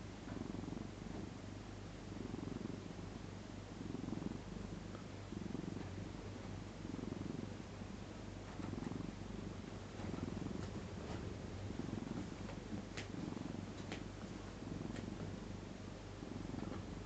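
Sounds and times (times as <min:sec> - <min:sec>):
cat snoring: 0:00.3 - 0:01.3, 0:02.0 - 0:07.6, 0:08.5 - 0:15.5, 0:16.2 - 0:17.0.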